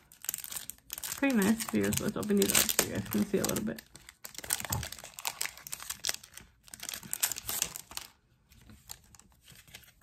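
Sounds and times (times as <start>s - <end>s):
paper packet crinkling: 0.0s - 10.0s.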